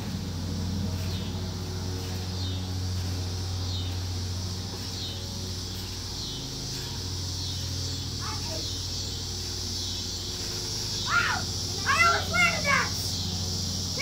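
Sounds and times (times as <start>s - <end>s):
low mechanical hum: 0.0s - 14.0s
steady high hiss: 0.0s - 14.0s.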